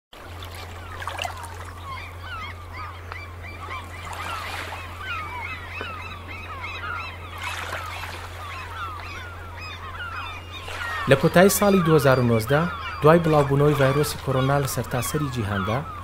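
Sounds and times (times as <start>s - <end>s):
gulls calling: 0.2s - 16.0s.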